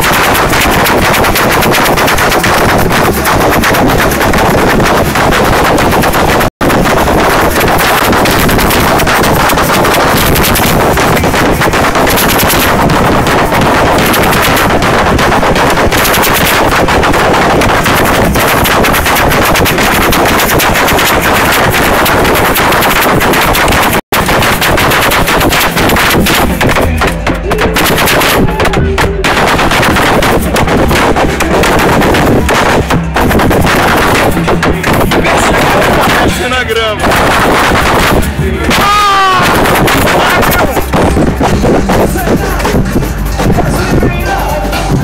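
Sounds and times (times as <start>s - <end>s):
distorted samba drumming: 0.0s - 45.0s.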